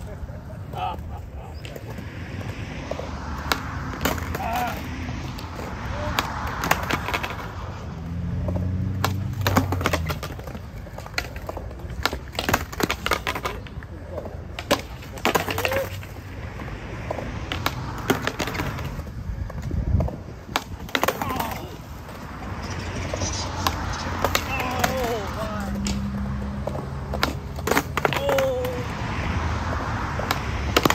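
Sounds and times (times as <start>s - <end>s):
skateboard clacking on concrete: 0.0s - 7.6s, 8.4s - 28.9s, 30.2s - 30.9s
skateboard wheels rolling on concrete: 0.0s - 30.9s.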